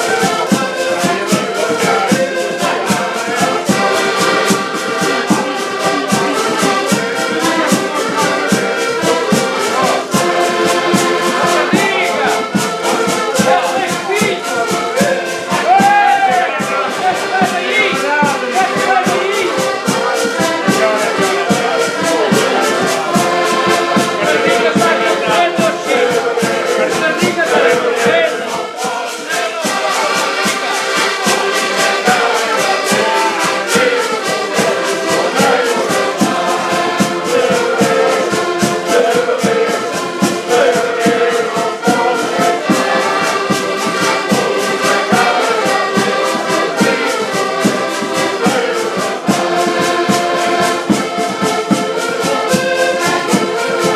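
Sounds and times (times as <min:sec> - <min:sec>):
button accordions playing: 0:00.0 - 0:53.9.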